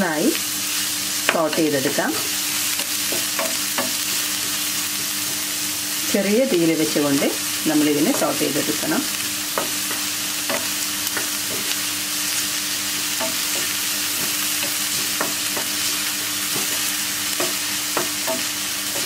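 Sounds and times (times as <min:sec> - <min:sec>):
onions sizzling in a frying pan: 0:00.0 - 0:19.0.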